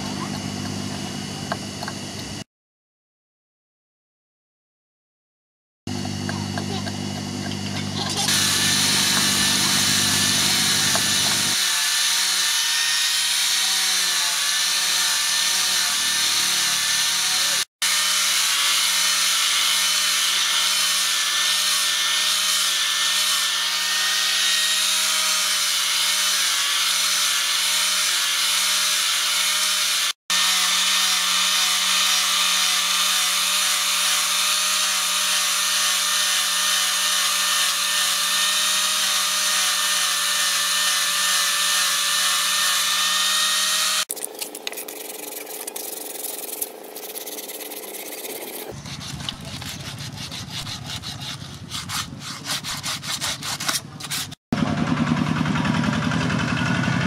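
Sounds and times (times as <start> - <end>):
angle grinder sanding wood: 7.6 - 54.4.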